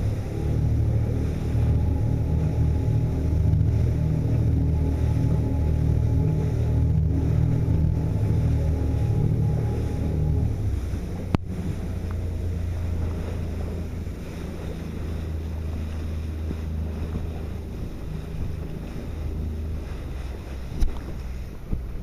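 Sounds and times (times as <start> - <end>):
low rumble: 0.0 - 22.0
water rushing and splashing: 0.0 - 22.0
wind buffeting microphone: 0.0 - 22.0.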